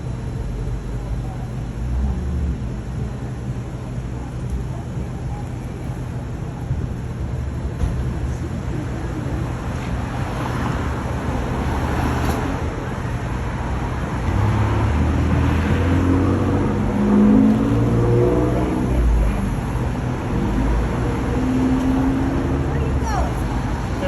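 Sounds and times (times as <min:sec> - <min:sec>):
car engine running close by: 0:00.0 - 0:24.0
cars passing: 0:00.0 - 0:24.0.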